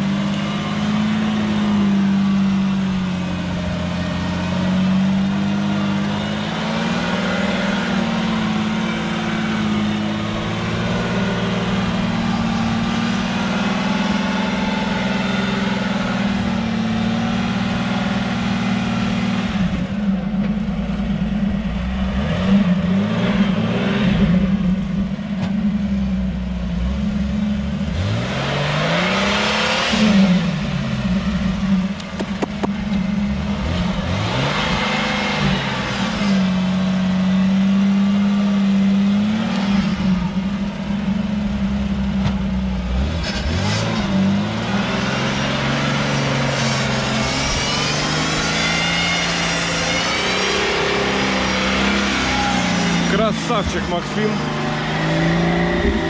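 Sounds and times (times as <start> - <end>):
engine revving: 0.0 - 56.0.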